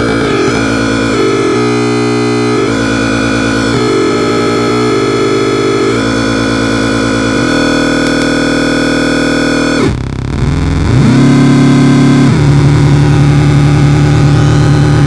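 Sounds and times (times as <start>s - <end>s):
electronic drone of stacked pitches: 0.0s - 15.0s.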